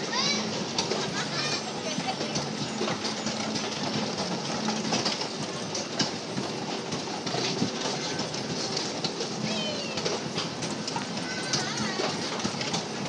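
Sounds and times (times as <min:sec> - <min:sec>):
kiddie ride machinery rattling: 0:00.0 - 0:13.0.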